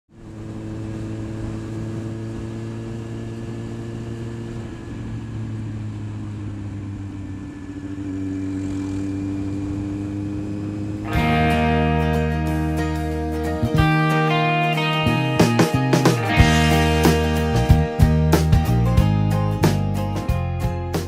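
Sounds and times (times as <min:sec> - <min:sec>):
motorcycle engine running: 0:00.1 - 0:21.0.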